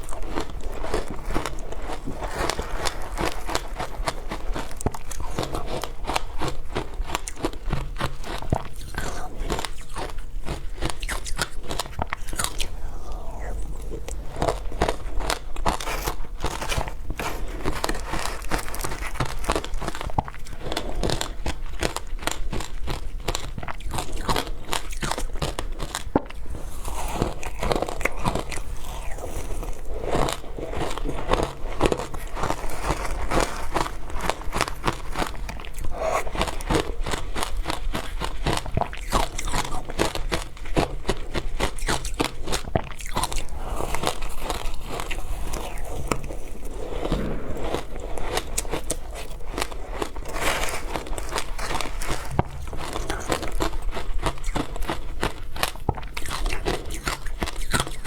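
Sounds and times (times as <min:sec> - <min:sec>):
crunching ice chewing: 0:00.0 - 0:58.0.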